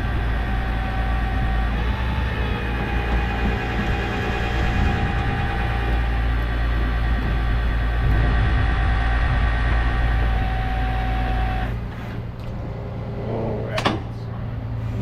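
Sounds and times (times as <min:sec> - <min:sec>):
hydraulics drone with whine: 0:00.0 - 0:15.0.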